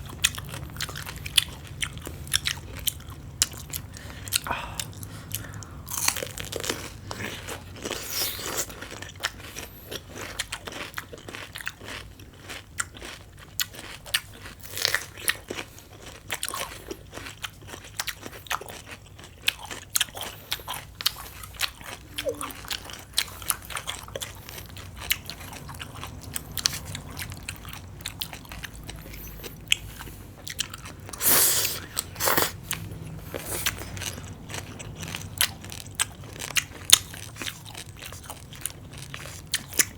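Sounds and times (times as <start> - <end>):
crunching and chewing salad: 0.0 - 39.9.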